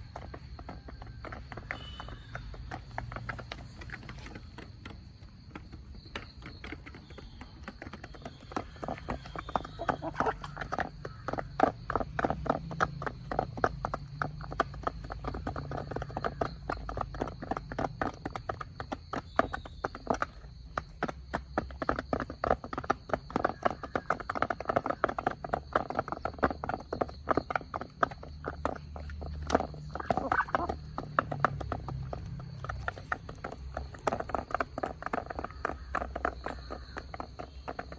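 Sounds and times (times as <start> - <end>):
chickens pecking at food: 0.0 - 37.9.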